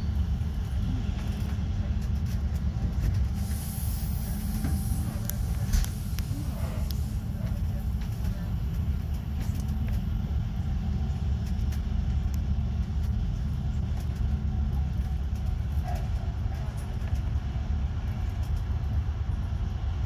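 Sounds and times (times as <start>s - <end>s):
train running low rumble: 0.0s - 20.0s.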